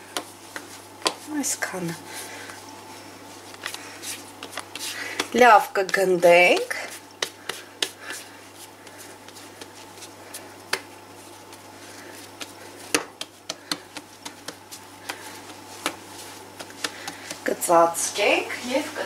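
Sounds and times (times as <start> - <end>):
hands patting dough on surface: 0.0 - 1.8, 3.5 - 17.7.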